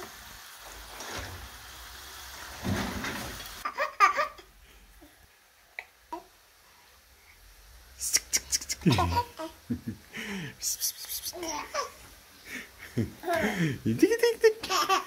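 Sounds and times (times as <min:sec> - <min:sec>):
chips sizzling in hot oil: 0:00.0 - 0:14.3.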